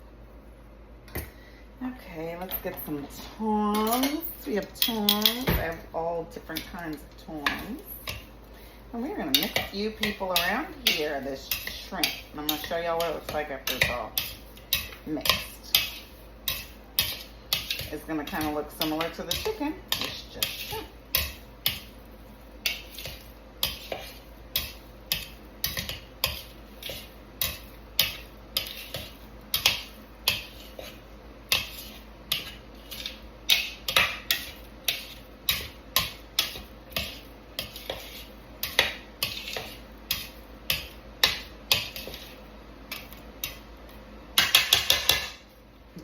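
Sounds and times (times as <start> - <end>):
tongs clacking against a bowl: 3.7 - 5.4, 9.1 - 45.3.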